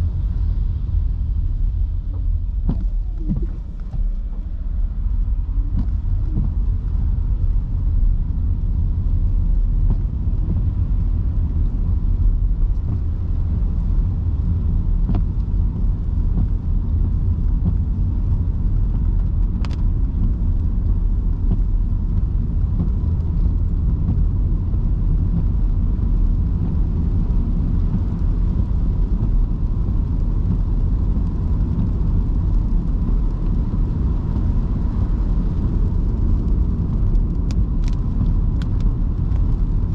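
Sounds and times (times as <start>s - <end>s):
car driving on wet road: 0.0s - 39.9s
heavy rain: 0.0s - 39.9s.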